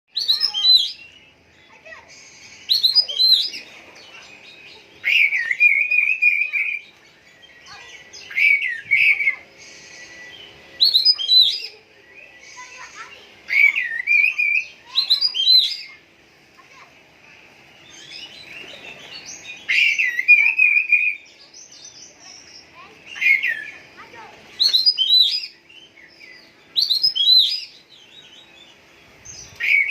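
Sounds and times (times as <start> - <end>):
songbird whistling and chirping: 0.1 - 16.0, 17.3 - 29.9.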